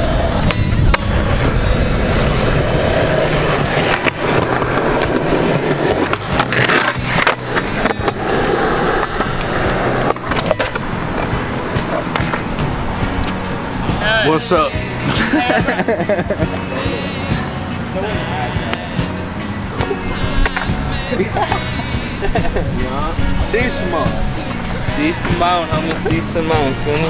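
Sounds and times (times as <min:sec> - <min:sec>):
skateboard clacks: 0:00.0 - 0:13.9, 0:15.7 - 0:22.6, 0:24.4 - 0:27.0
skateboard wheels rolling on concrete: 0:00.0 - 0:27.0.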